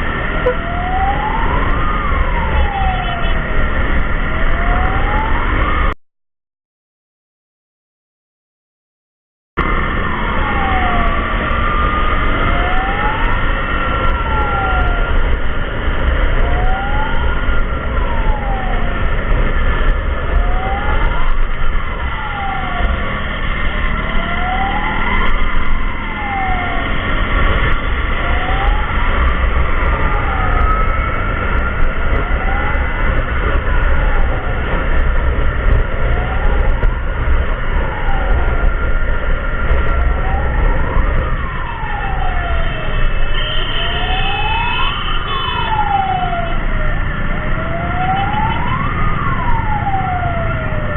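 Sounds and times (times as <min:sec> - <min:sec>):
low rumble of traffic: 0:00.0 - 0:05.9, 0:09.6 - 0:50.9
emergency vehicle siren wailing: 0:00.0 - 0:06.0, 0:09.6 - 0:50.9.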